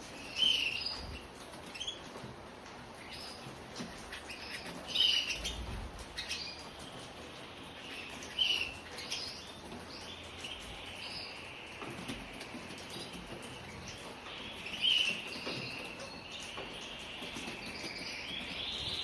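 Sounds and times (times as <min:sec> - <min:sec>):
canaries chirping: 0:00.0 - 0:19.0.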